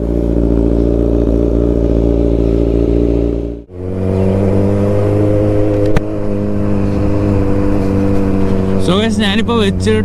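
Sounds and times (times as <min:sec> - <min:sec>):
motorcycle engine running steadily: 0:00.0 - 0:10.0.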